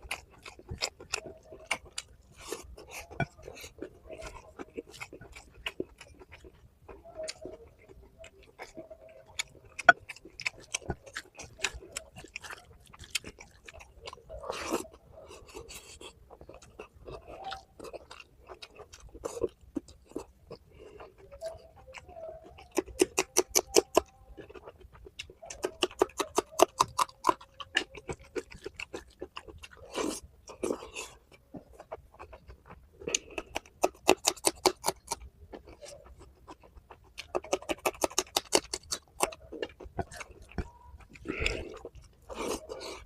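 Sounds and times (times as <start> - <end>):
person chewing food: 0.0 - 43.0.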